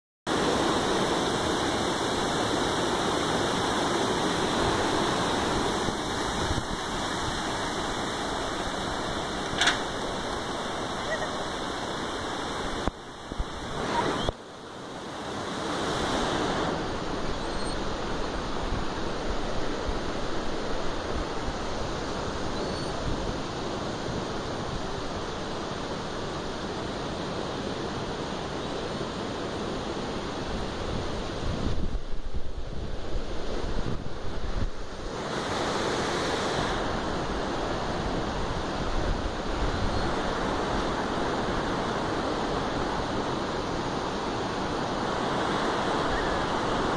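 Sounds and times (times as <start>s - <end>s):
river rapids rushing: 0.3s - 31.6s, 32.6s - 46.9s.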